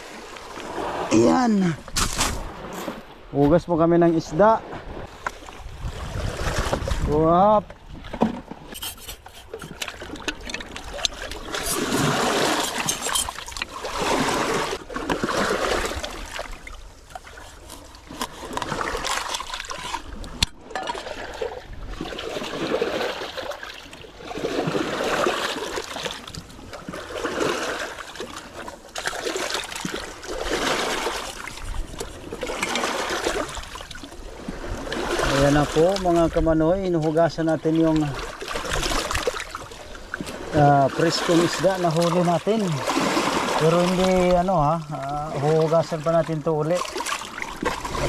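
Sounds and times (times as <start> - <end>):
seawater splashing over rocks: 7.9 - 48.0.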